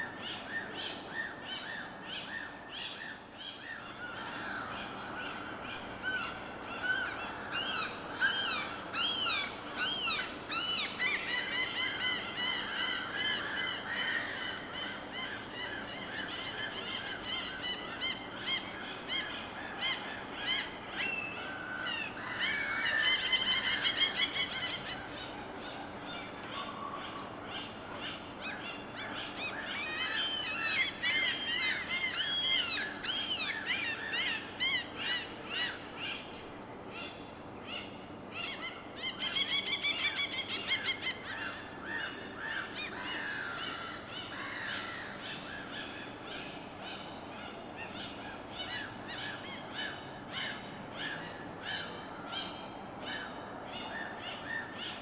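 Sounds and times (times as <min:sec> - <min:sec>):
birds calling and chirping: 0:02.2 - 0:55.0.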